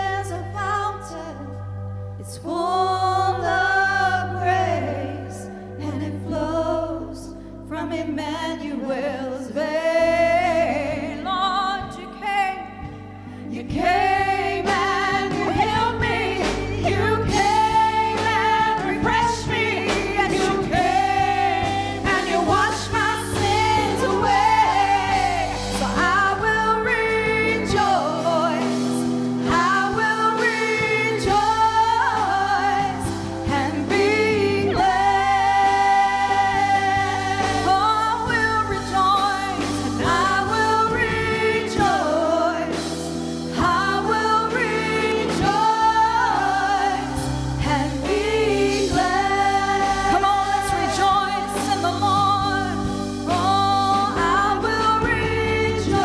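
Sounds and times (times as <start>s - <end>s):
gospel singing: 0.0s - 56.0s.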